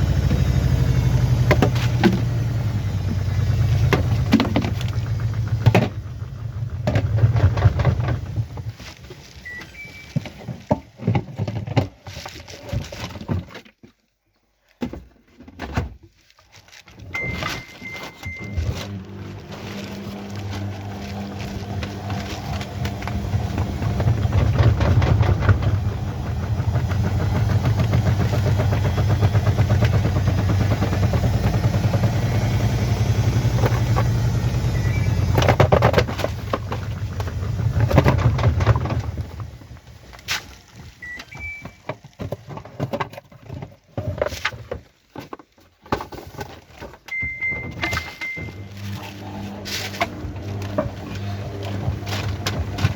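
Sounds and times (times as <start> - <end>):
washing machine humming and rattling: 0.0 - 11.6, 17.1 - 43.6, 47.1 - 52.9.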